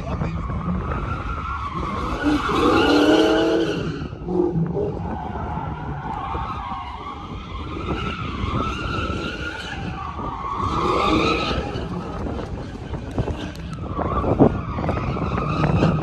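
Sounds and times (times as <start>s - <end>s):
tires squealing: 0.0s - 16.0s.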